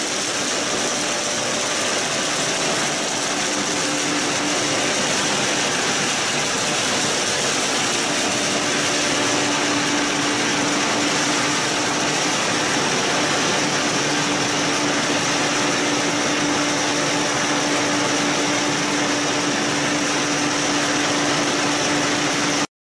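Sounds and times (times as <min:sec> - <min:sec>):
machinery droning: 0:00.0 - 0:22.6.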